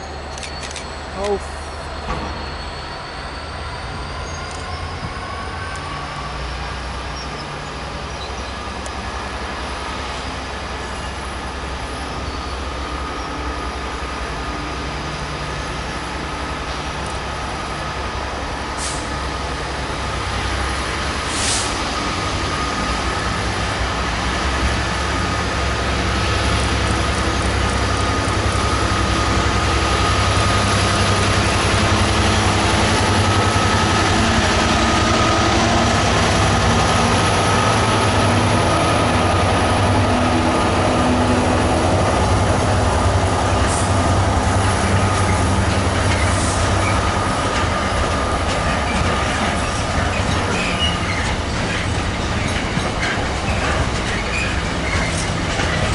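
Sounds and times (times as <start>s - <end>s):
diesel locomotive engine running: 0.0s - 55.9s.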